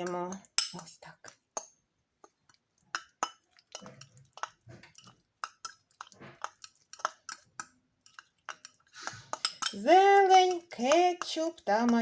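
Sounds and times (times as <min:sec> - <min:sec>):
wet squish of thick sauce: 0:00.0 - 0:12.0
fork clicking against bowl: 0:01.5 - 0:12.0.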